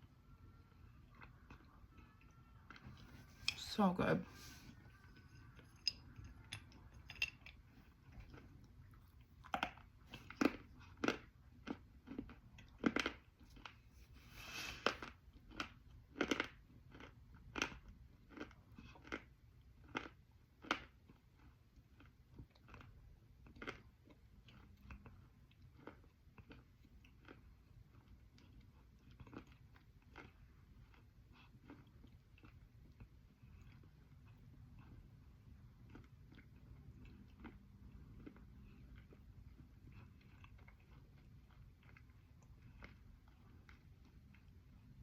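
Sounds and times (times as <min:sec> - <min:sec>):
chewing crunchy clay: 0:05.4 - 0:13.9, 0:14.7 - 0:45.0.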